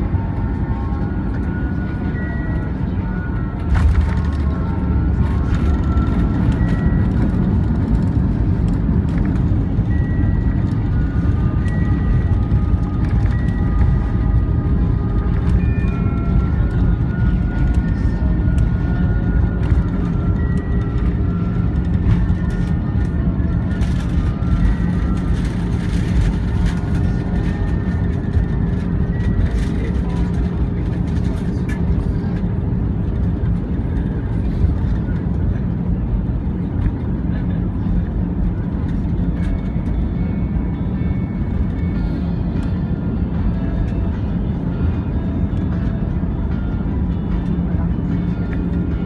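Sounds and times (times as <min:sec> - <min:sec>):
aircraft cabin engine roar: 0:00.0 - 0:49.0.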